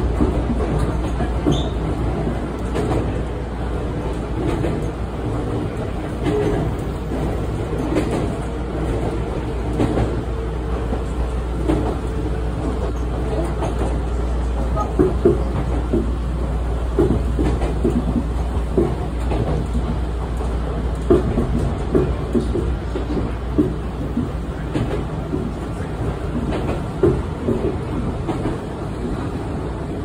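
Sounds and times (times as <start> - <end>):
wheels clacking over rail joints: 0.0 - 29.4
train hum and rumble: 0.0 - 30.0.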